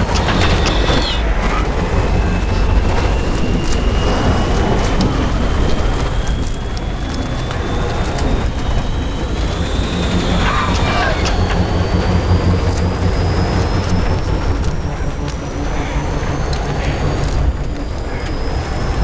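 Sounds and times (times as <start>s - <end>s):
high whine rising in pitch: 0.0s - 16.4s
deep rumble: 0.0s - 19.0s.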